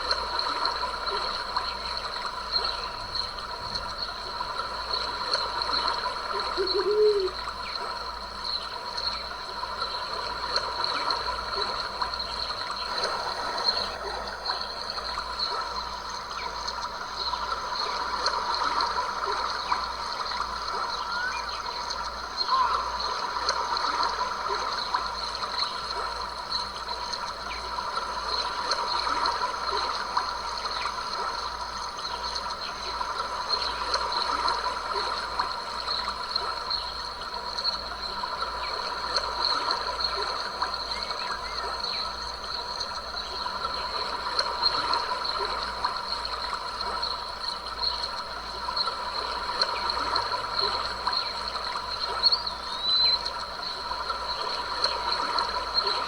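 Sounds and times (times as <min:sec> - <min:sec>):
stream water gurgling: 0:00.0 - 0:56.0.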